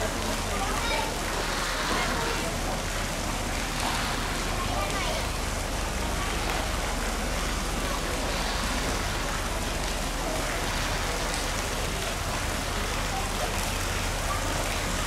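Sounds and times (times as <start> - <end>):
steady rushing noise: 0.0 - 13.2
faint voices murmuring: 0.0 - 15.0.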